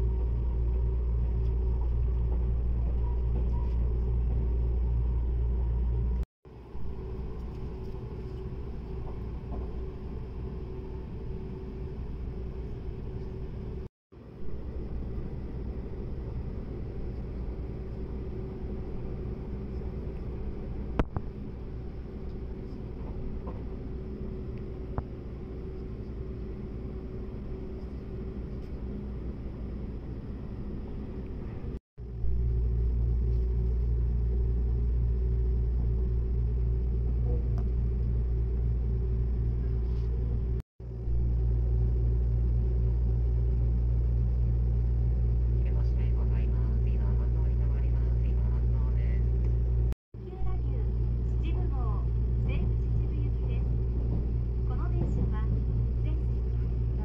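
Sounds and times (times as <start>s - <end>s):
train running rumble in cabin: 0.0s - 57.0s.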